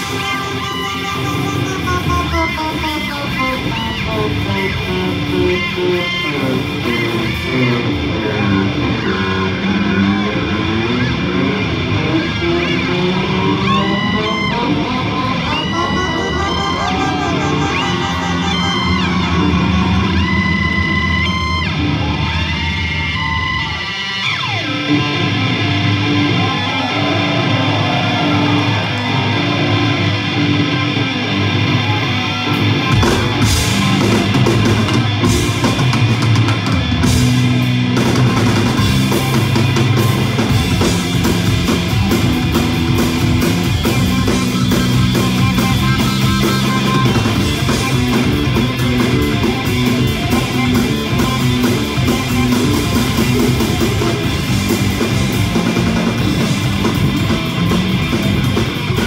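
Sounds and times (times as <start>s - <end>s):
bass guitar: 0.0s - 59.0s
drum kit: 0.0s - 59.0s
electric guitar riff: 0.0s - 59.0s.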